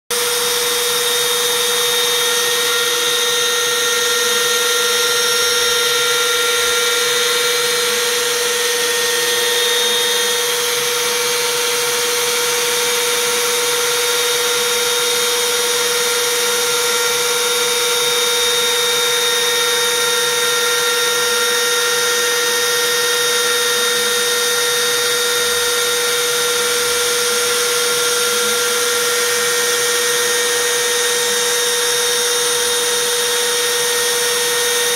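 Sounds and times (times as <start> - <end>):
end mill cutting plywood: 0.1 - 34.9
router spindle whining: 0.1 - 34.9.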